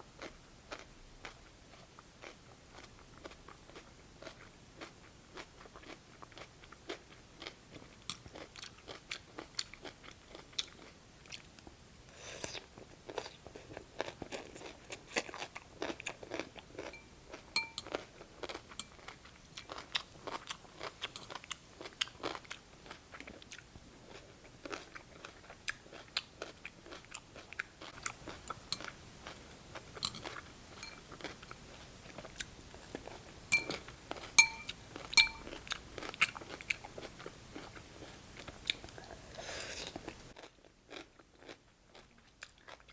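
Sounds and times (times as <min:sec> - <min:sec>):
crunching and chewing cucumber: 0:00.2 - 0:42.9.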